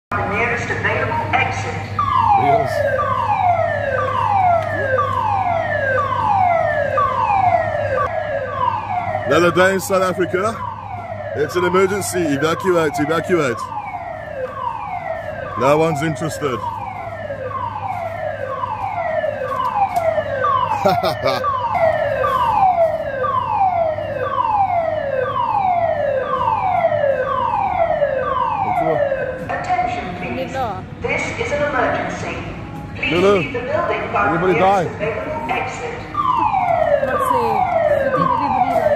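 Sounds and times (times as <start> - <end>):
falling siren alarm: 0.9 - 30.2, 33.2 - 38.9.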